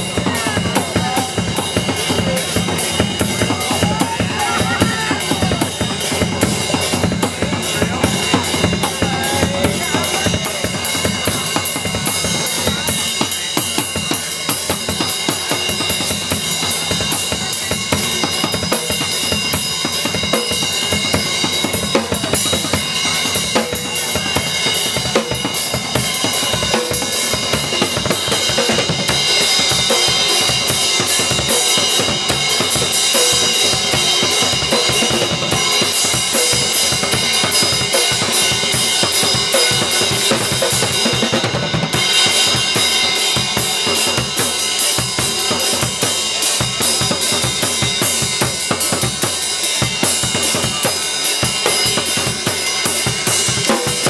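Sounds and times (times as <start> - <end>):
acoustic drum kit playing: 0.0 - 54.0.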